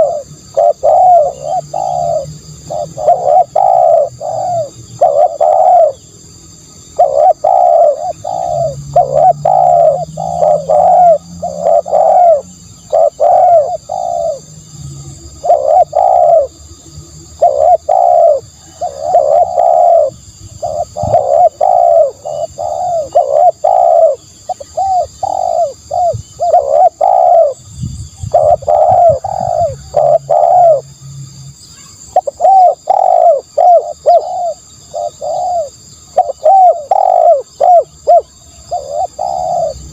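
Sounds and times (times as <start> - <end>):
dove cooing: 0.0 - 6.2, 6.8 - 16.6, 17.2 - 30.9, 31.8 - 39.9.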